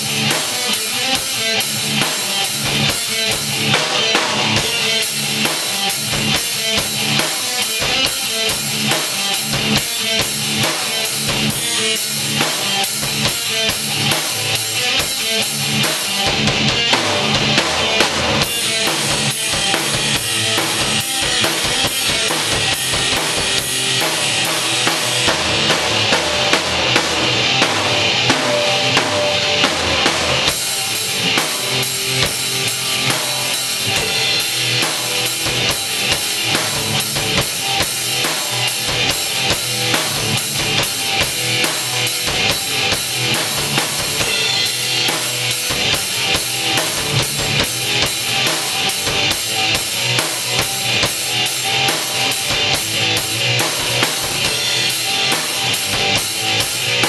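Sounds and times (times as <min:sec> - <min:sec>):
drum kit played hard: 0:00.0 - 0:57.0
electric guitar: 0:00.0 - 0:57.0
rock band playing live: 0:00.0 - 0:57.0.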